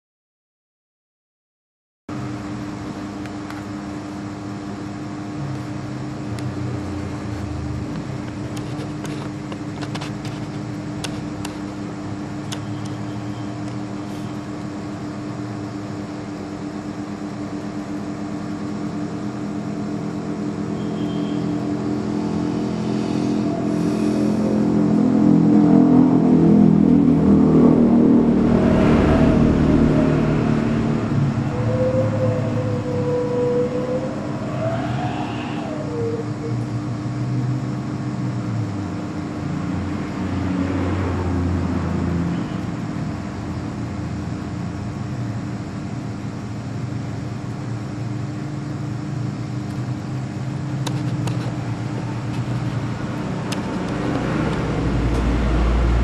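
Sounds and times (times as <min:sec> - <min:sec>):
vehicle engine hum: 0:02.1 - 0:56.0.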